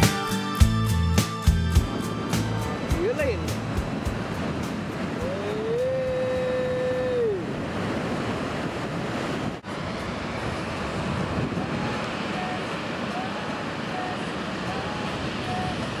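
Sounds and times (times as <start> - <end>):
wind buffeting microphone: 1.7 - 16.0
surf breaking on a reef: 1.9 - 16.0.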